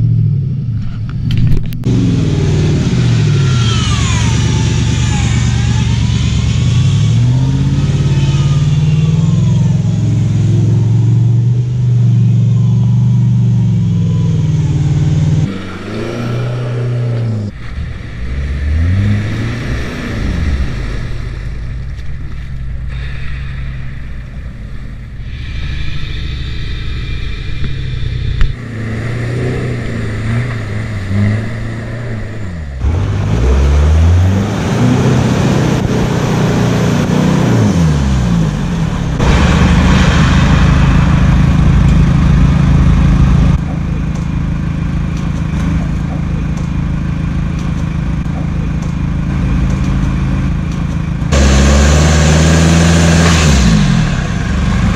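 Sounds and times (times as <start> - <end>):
engine idling and revving: 0.0 - 54.9.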